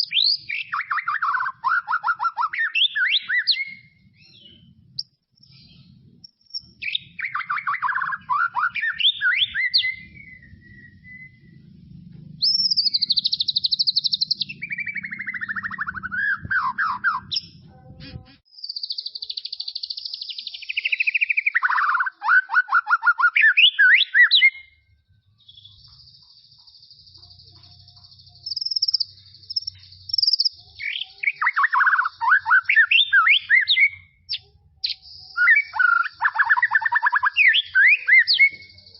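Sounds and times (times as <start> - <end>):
bird singing downward runs: 0.0 - 38.9.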